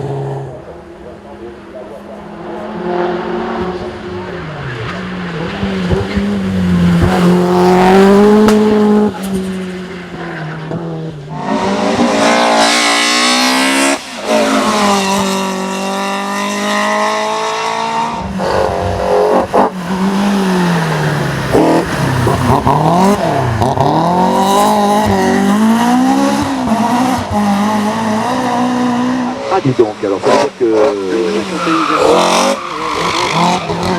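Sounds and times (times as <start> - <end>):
racing car engines revving: 0.0 - 33.9.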